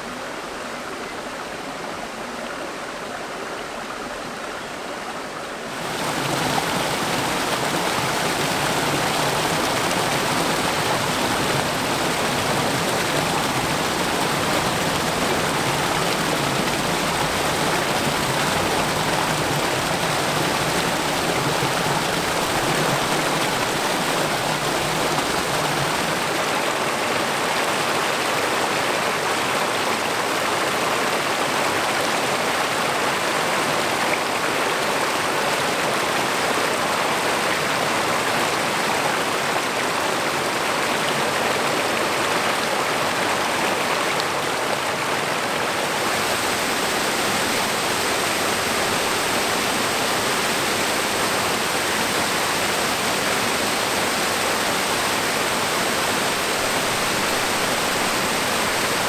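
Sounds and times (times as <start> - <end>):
stream and waterfalls rushing: 0.0 - 59.0.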